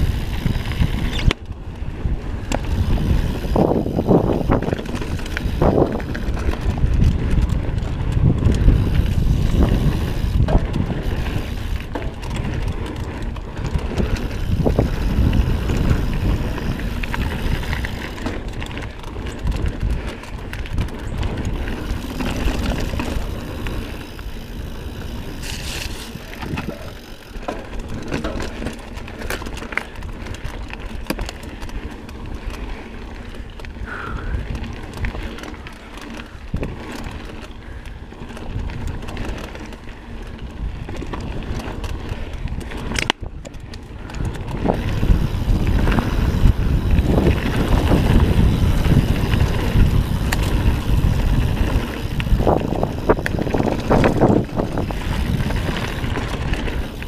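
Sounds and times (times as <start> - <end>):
bike clicks and rattles: 0.0 - 57.0
bike tyres rolling over dirt and rock: 0.0 - 57.0.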